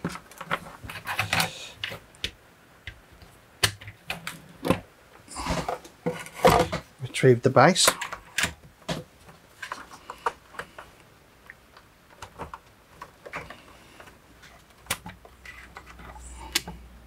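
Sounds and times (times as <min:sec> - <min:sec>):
low steady electrical hum: 0:00.0 - 0:17.0.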